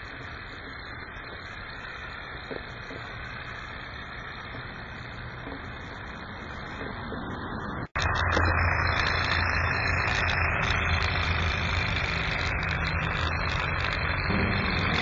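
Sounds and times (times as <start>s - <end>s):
small engine whirring: 0.0s - 15.0s.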